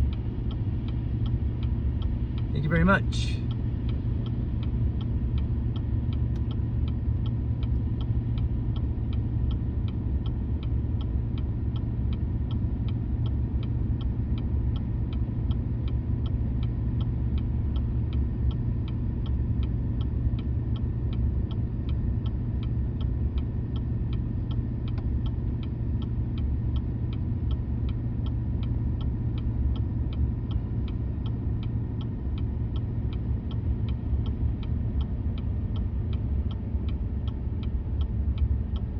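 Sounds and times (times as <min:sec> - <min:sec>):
engine and road rumble: 0:00.0 - 0:38.9.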